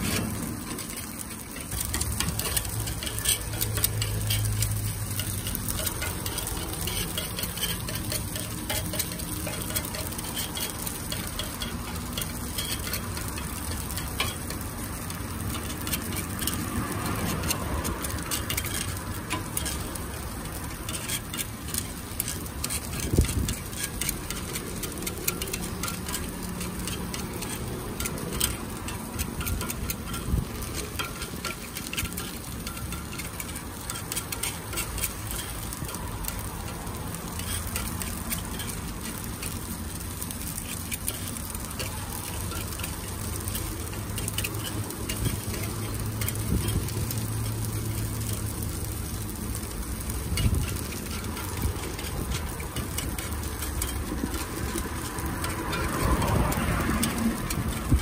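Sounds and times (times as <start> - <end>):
batter sizzling on griddle: 0.0 - 58.0
pick clicking and scraping plate: 0.0 - 58.0.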